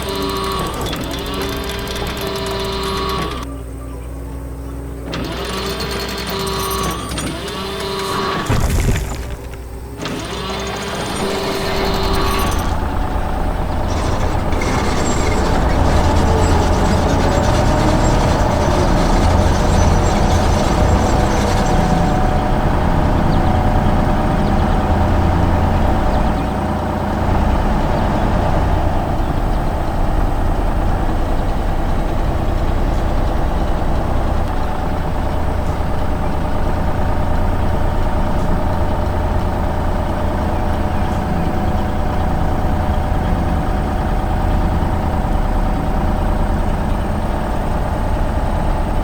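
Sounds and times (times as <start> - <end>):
heavy vehicle engine rumbling: 0.0 - 49.0.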